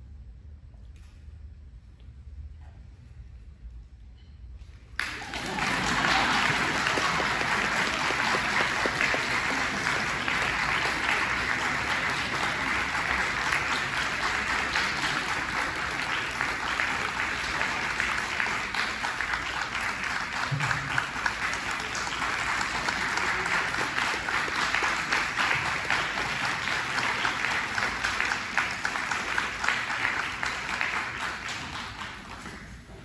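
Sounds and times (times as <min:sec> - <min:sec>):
audience applauding: 0:05.0 - 0:32.9.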